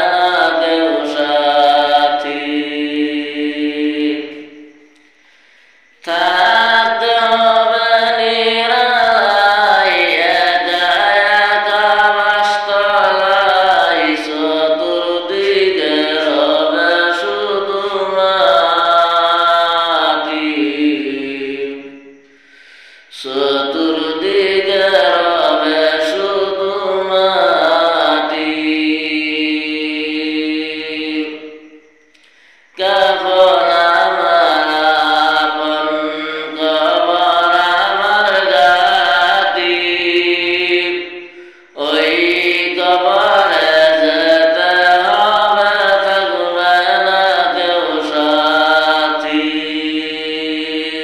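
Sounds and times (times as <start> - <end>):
man singing: 0.0 - 4.4, 6.0 - 21.9, 23.2 - 31.4, 32.8 - 51.0.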